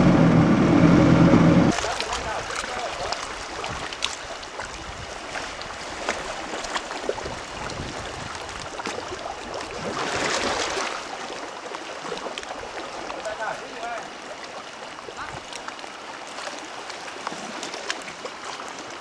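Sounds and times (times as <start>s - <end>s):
rush of water: 0.0s - 19.0s
sea water sloshing and splashing: 0.0s - 19.0s.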